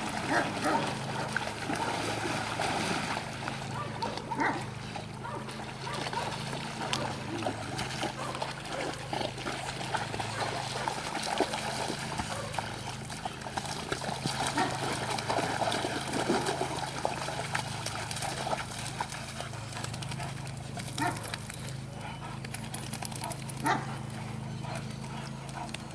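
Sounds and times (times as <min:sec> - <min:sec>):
water splashing and sloshing: 0:00.0 - 0:25.9.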